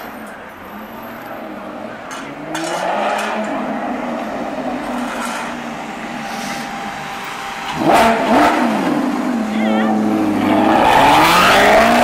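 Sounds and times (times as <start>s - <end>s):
sports car engine revving: 2.3s - 12.0s.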